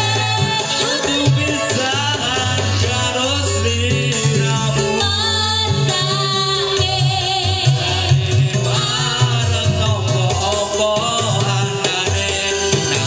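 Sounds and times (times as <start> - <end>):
live band playing: 0.0 - 13.0
rattling percussion: 0.0 - 13.0
woman singing with vibrato: 0.0 - 13.0.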